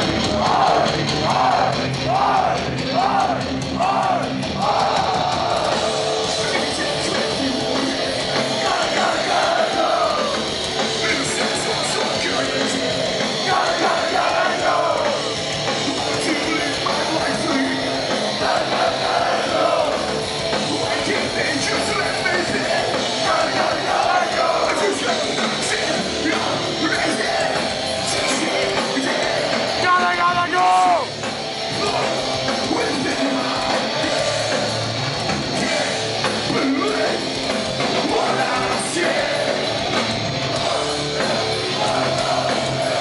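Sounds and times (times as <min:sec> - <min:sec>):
shouted vocals: 0:00.0 - 0:20.1, 0:20.7 - 0:43.0
punk band playing live: 0:00.0 - 0:43.0.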